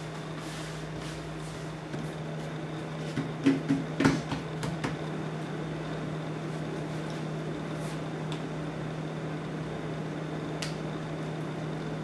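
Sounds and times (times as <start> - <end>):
appliance humming with high whine: 0.0 - 12.0.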